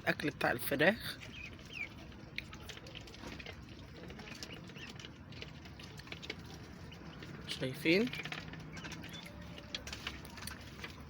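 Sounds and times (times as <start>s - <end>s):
ducks pecking and tapping: 0.0s - 11.0s.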